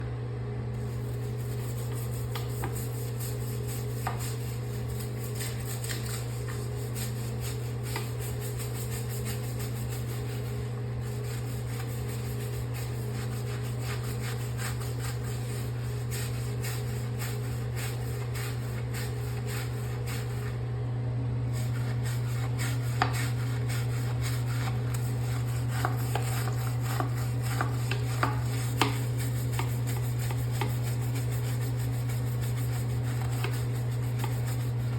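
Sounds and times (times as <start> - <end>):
steady low hum: 0.0 - 34.9
toilet bowl scrubbing: 0.8 - 20.7, 21.5 - 34.9.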